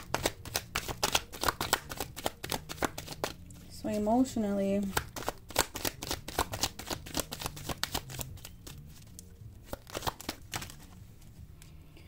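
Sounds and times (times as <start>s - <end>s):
cards being shuffled: 0.0s - 3.8s, 4.8s - 11.8s.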